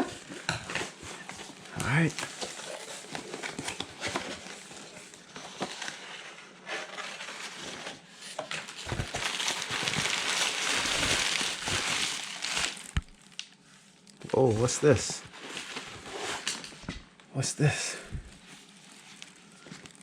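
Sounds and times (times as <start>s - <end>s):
cardboard tearing and rustling: 0.0s - 13.4s, 14.3s - 16.9s, 18.4s - 20.0s.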